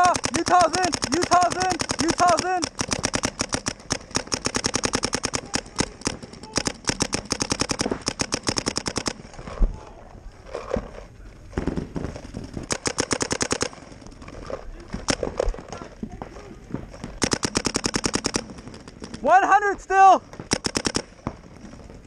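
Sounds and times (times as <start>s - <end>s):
paintball markers firing rapidly: 0.0s - 9.5s, 11.6s - 19.5s, 20.3s - 22.0s.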